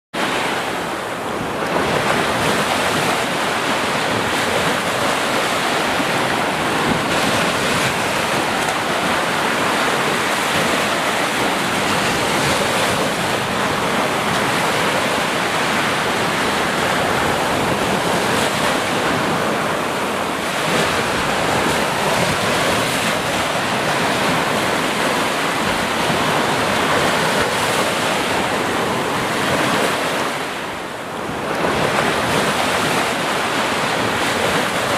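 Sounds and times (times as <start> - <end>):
sea waves washing on shore: 0.2 - 34.9.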